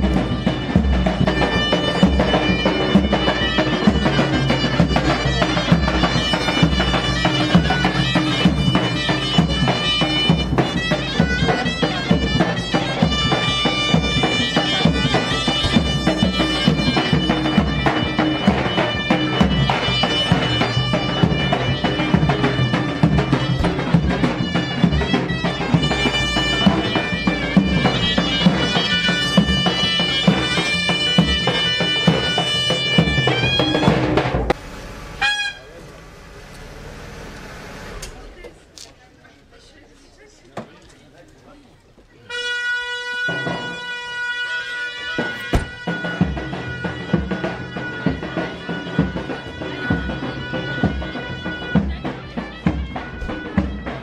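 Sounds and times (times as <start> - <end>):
steady drum beat: 0.0 - 34.6, 44.9 - 54.0
shrill reed wind instrument: 0.0 - 35.9, 42.2 - 54.0.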